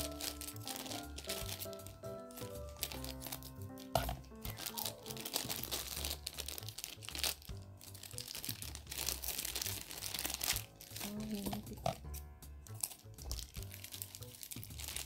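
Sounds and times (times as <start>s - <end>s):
packaging crinkling: 0.0s - 12.0s, 12.7s - 15.0s.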